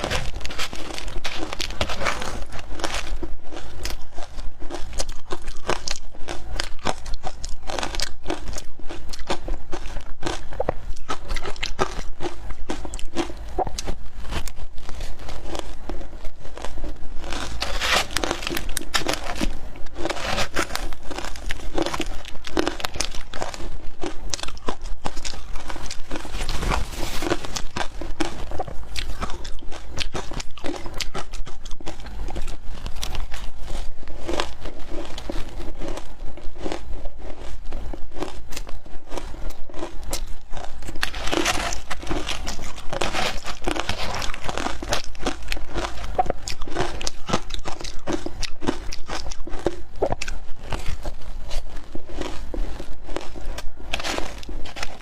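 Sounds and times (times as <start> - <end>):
ice being bitten and chewed: 0.0 - 55.0.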